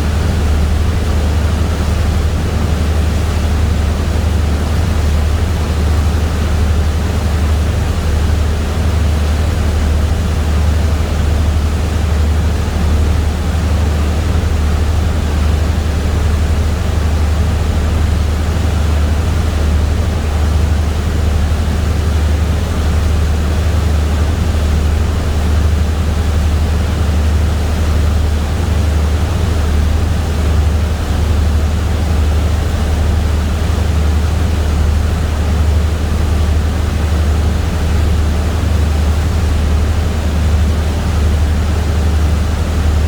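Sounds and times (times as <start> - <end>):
boat engine drone: 0.0 - 43.0.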